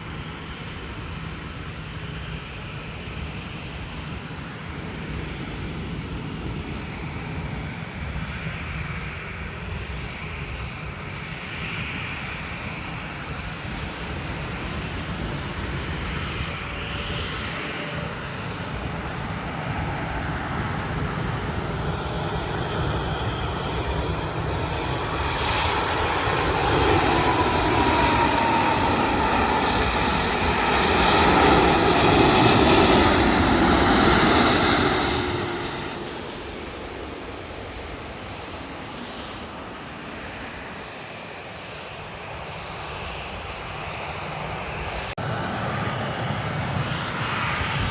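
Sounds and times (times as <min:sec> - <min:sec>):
jet airliner passing overhead: 0:00.0 - 0:47.9
jet engine whine: 0:00.0 - 0:47.9.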